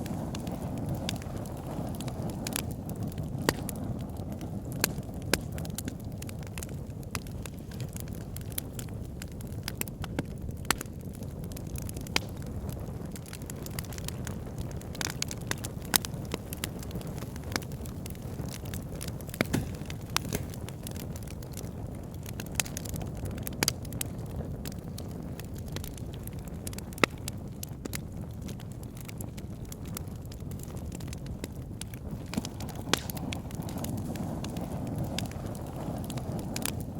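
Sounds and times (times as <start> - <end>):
campfire crackling and popping: 0.0 - 36.9
campfire low rumble: 0.0 - 36.9.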